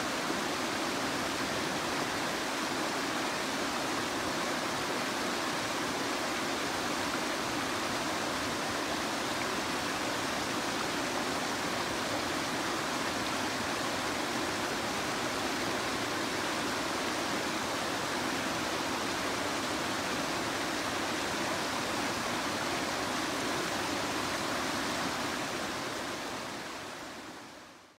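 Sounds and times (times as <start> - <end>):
river water rushing over weir: 0.0 - 28.0.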